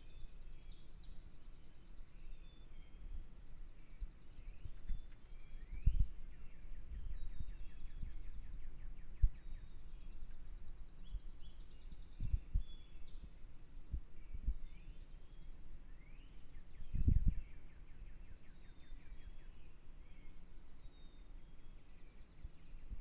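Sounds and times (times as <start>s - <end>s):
songbirds chirping and trilling: 0.0s - 23.0s.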